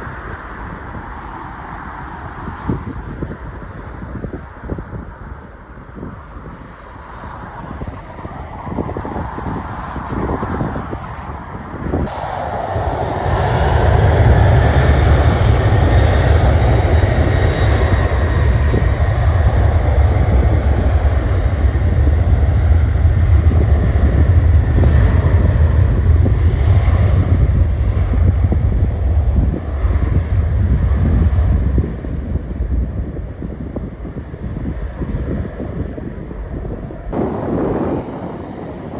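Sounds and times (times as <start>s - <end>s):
airliner engines roaring: 0.0s - 38.9s
wind buffeting microphone: 0.0s - 38.9s.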